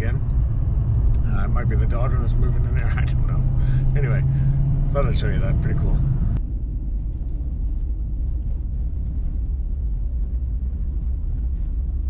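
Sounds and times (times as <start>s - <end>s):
tyres on snowy road: 0.0s - 12.0s
vehicle engine rumble: 0.0s - 12.0s.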